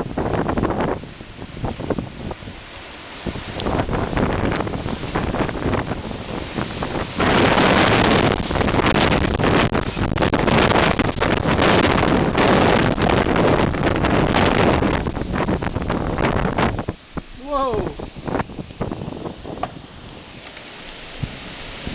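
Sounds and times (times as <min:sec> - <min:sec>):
strong wind gust on microphone: 0:00.0 - 0:21.9.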